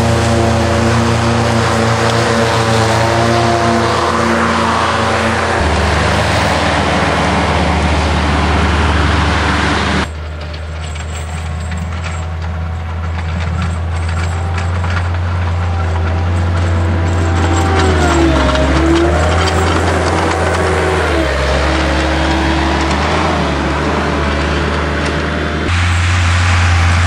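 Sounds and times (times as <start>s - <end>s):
loader engine running: 0.0s - 27.0s
plough blade scraping snow: 0.0s - 27.0s.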